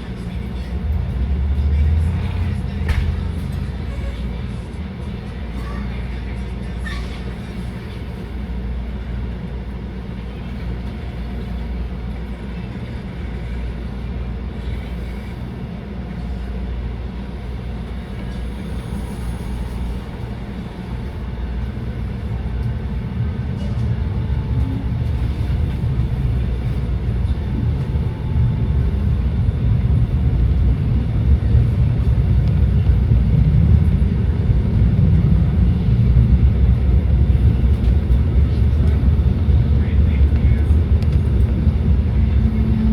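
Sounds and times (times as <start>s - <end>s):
trolley running on rails: 0.0s - 42.9s.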